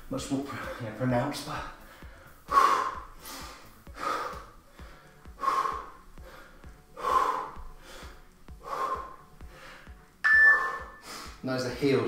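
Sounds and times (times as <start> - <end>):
man breathing hard: 1.7 - 11.4.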